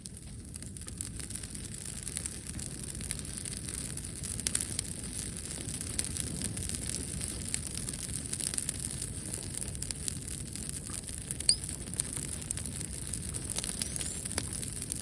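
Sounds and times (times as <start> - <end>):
bonfire flames rumbling: 0.0 - 15.0
fire crackling and popping: 0.0 - 15.0.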